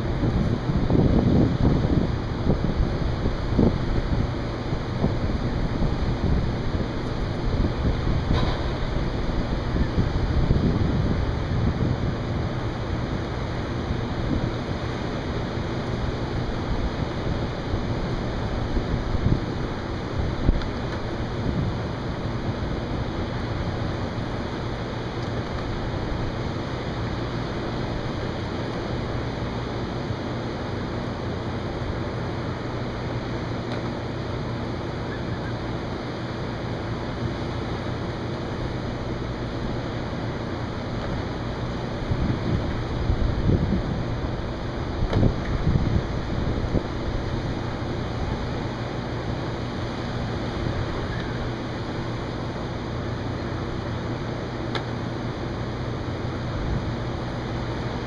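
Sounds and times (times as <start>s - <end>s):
air conditioner compressor hum: 0.0s - 58.0s
wind: 0.0s - 58.0s.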